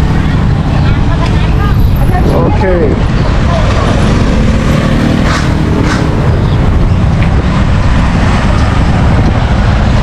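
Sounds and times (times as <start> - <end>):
city street traffic rumble: 0.0 - 10.0.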